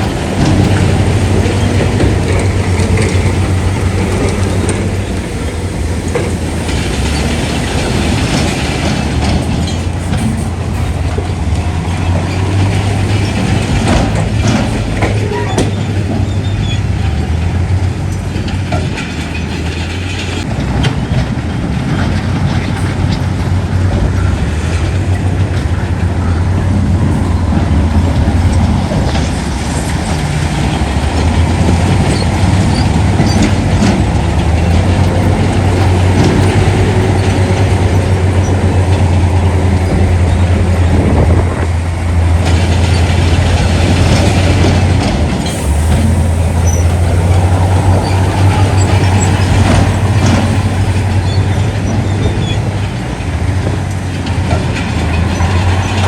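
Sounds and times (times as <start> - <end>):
diesel engine drone: 0.0 - 56.0
machinery clanks and rattles: 0.0 - 56.0.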